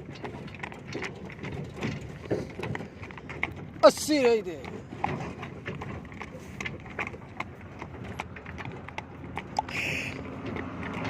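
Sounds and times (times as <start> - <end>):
hooves clip-clopping on a path: 0.0 - 11.0.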